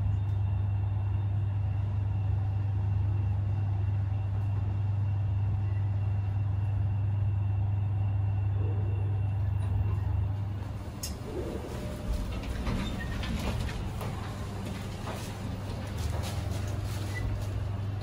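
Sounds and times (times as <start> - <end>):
elevator machinery humming: 0.0 - 18.0.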